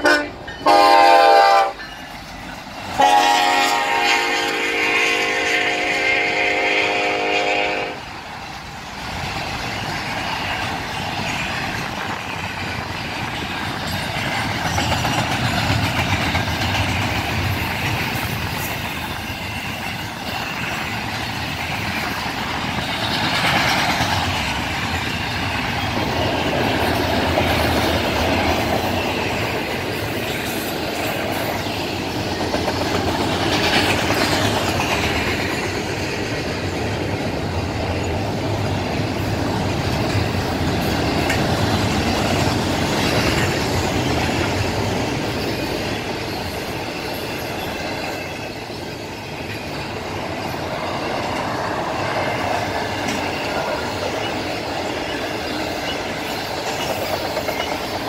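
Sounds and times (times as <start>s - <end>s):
train wheels clattering over rail joints: 8.4s - 58.0s.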